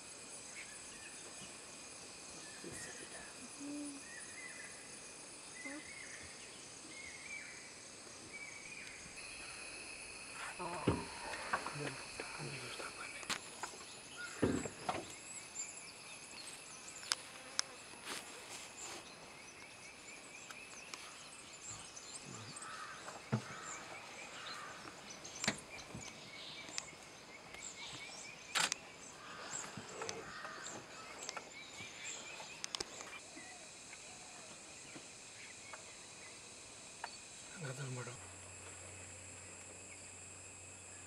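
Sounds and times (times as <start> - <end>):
insect trilling: 1.8 - 18.9, 19.5 - 41.0.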